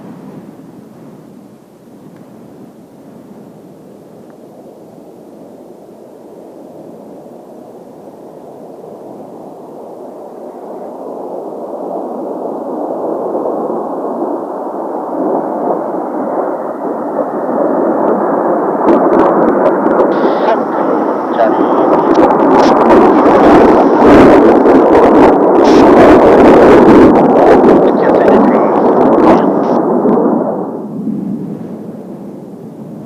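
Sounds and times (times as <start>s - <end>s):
jet aircraft noise: 0.0s - 33.0s.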